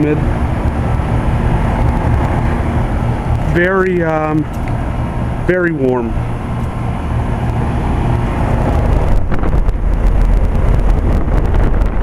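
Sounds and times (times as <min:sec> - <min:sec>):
compressor humming: 0:00.0 - 0:12.0
condenser fan blowing air: 0:00.0 - 0:12.0
wind buffeting microphone: 0:00.0 - 0:12.0.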